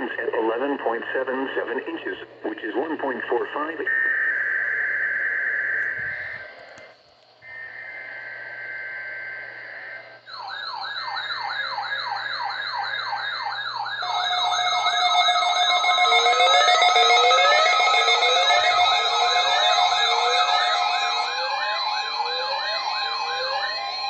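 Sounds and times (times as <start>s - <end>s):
electronic siren tones: 3.6s - 24.0s.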